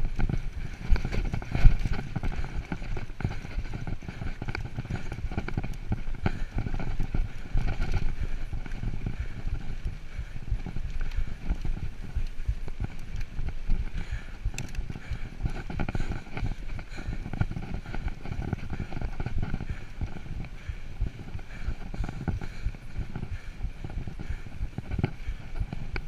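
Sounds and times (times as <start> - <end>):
mountain bike clattering on trail: 0.0 - 26.0.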